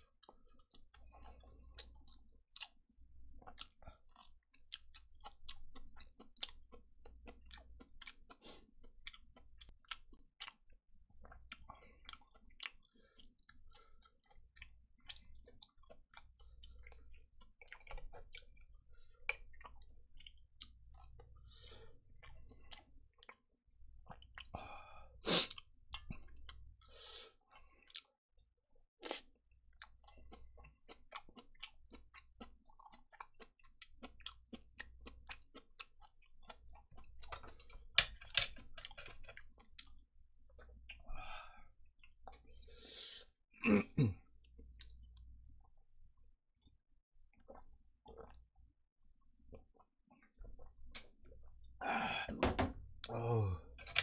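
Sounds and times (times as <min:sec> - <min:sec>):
person chewing food: 0:00.0 - 0:28.2, 0:29.0 - 0:43.3, 0:44.1 - 0:46.7, 0:47.3 - 0:54.0.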